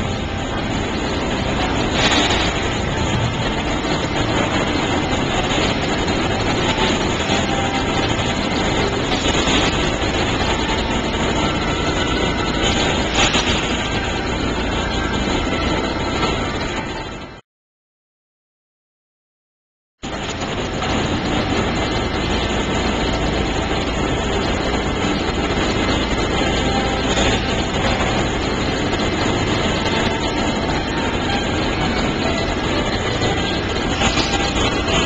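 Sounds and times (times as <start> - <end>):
flood barrier mechanical running: 0.0 - 17.4, 20.0 - 35.0.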